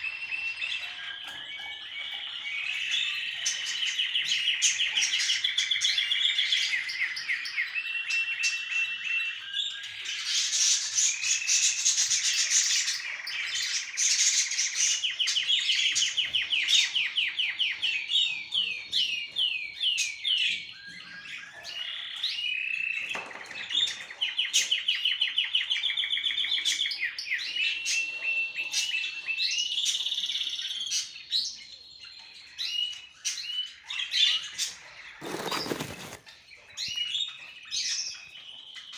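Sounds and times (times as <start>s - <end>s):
small birds trilling and chirping: 0.0s - 38.9s.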